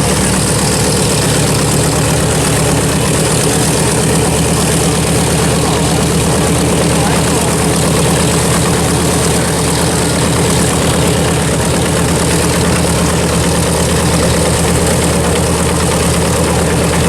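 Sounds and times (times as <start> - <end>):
radial aircraft engine idling: 0.0 - 17.0.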